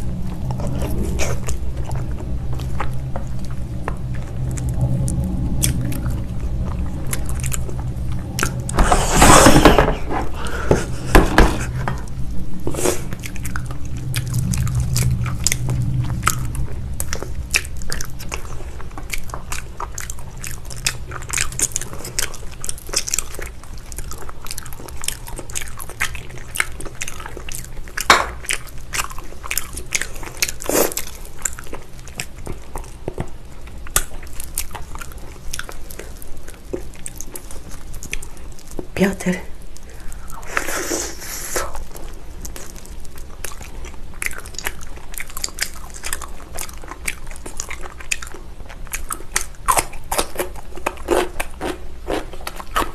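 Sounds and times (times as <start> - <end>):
close biting and chewing: 0.1 - 38.9, 39.8 - 52.9.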